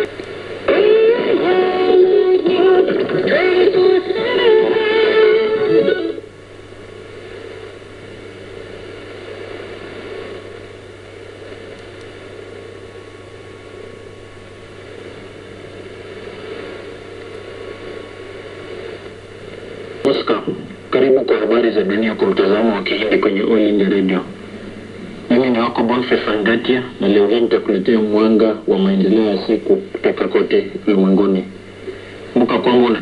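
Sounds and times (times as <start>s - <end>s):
faint hum: 0.0s - 33.0s
radio static hiss: 0.0s - 33.0s.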